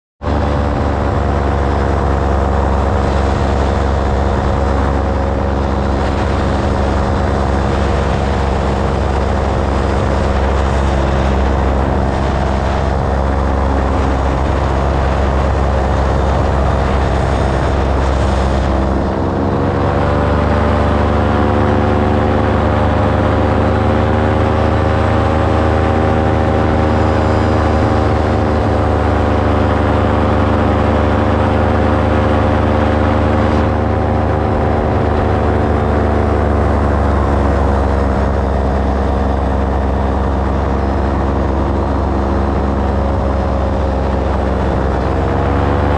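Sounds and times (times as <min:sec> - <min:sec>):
propeller aircraft engine droning: 0:00.2 - 0:45.9.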